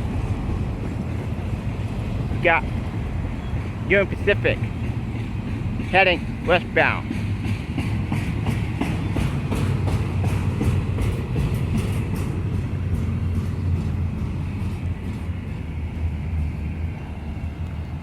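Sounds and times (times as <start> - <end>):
freight train rumbling: 0.0 - 18.0
wheels clicking over rail joints: 0.0 - 18.0.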